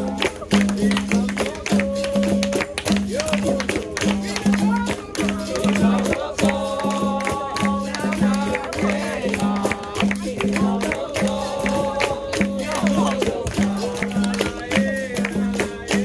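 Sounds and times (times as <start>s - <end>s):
hand percussion strikes: 0.0s - 16.0s
voices singing: 0.0s - 16.0s.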